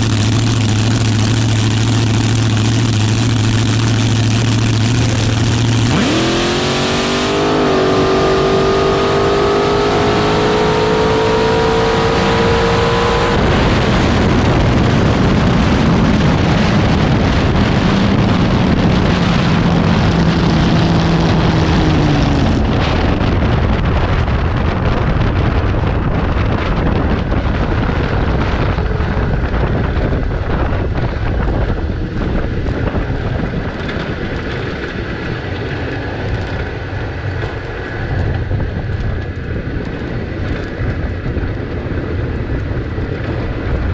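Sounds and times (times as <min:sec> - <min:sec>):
dragster engine at full throttle: 0:00.0 - 0:43.9
wind rush on microphone: 0:00.0 - 0:43.9.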